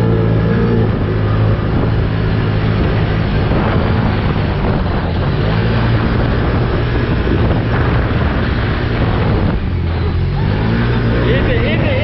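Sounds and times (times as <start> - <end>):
vehicle engine running hard: 0.0 - 12.0
wind noise on microphone: 0.0 - 12.0.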